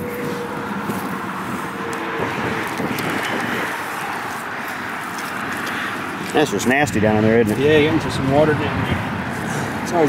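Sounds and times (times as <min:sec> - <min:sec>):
steady rushing background noise: 0:00.0 - 0:10.0.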